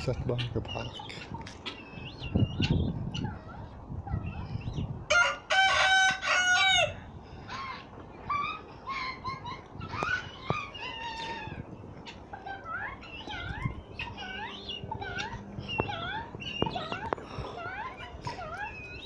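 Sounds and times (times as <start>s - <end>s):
fowl chirping calls: 0.0s - 19.0s.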